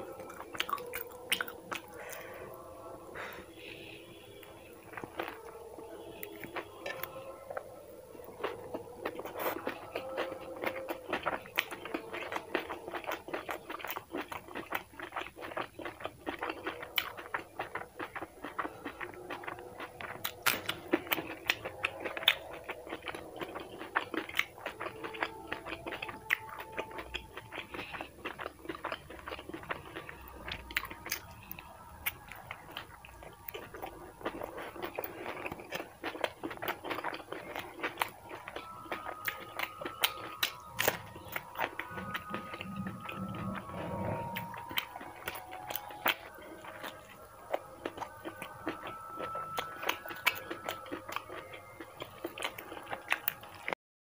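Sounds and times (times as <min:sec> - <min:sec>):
person chewing and crunching food: 0:00.0 - 0:53.8.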